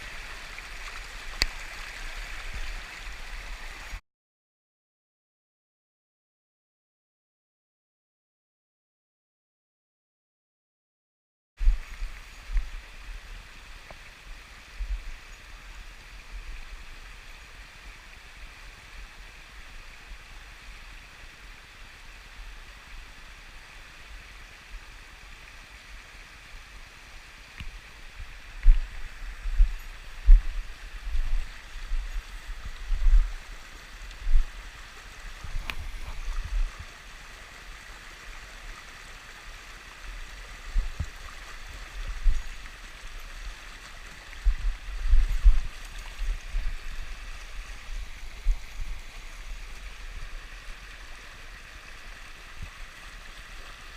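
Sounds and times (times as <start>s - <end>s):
stream water rushing and gurgling: 0.0s - 4.0s, 11.6s - 53.9s.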